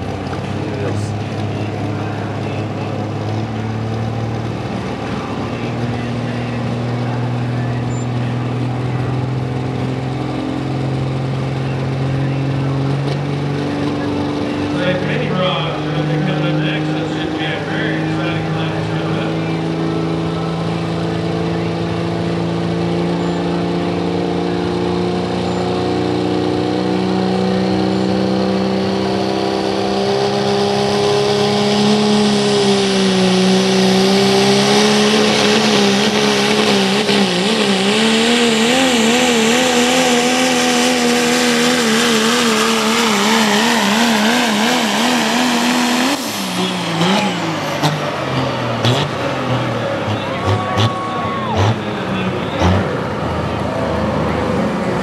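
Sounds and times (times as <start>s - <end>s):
diesel engine running flat out: 0.0s - 55.0s.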